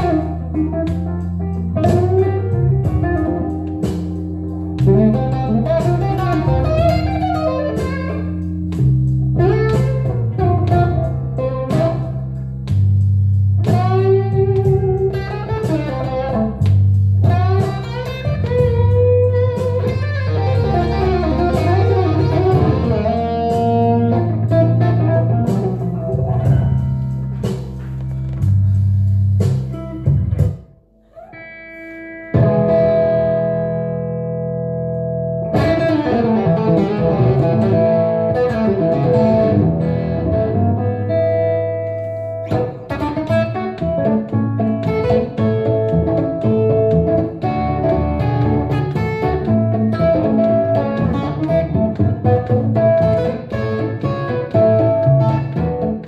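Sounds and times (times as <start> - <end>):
electric guitar blues lead: 0.0 - 56.0
low bass line: 0.0 - 56.0.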